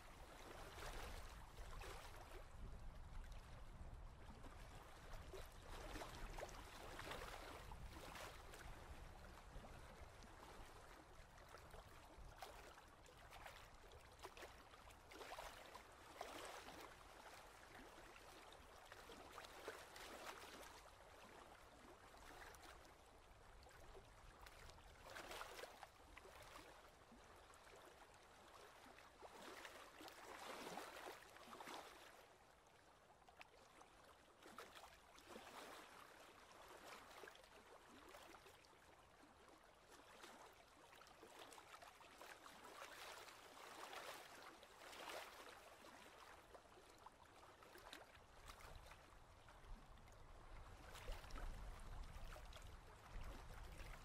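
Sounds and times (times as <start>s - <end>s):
small waves lapping on rocks: 0.0s - 32.2s, 34.4s - 39.0s, 39.9s - 54.0s.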